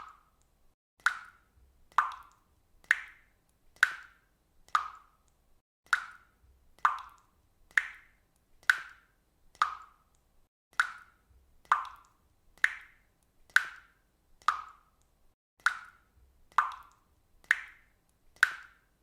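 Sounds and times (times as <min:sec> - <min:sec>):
water dripping: 0:00.0 - 0:19.0.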